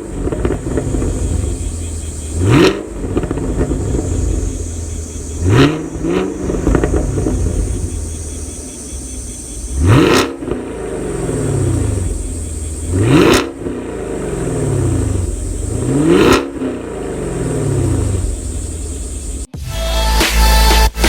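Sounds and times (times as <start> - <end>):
car exhaust idling and revving: 0.0 - 19.6.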